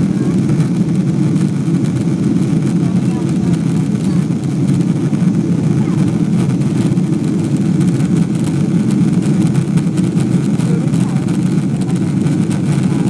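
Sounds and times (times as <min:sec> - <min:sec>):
airplane engine drone: 0:00.0 - 0:13.0
rushing air: 0:00.0 - 0:13.0.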